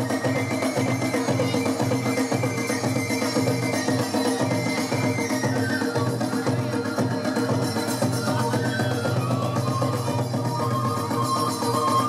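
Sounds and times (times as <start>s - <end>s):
bamboo flute: 0.0s - 12.0s
small hand cymbals: 0.0s - 12.0s
taiko drums: 0.0s - 12.0s.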